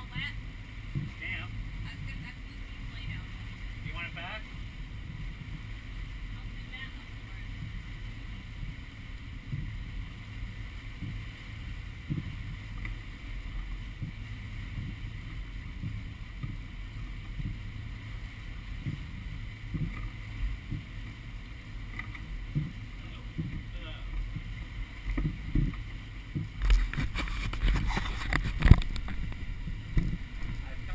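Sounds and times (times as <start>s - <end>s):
powerboat engine droning: 0.0s - 30.9s
soft low thumps: 0.0s - 30.9s.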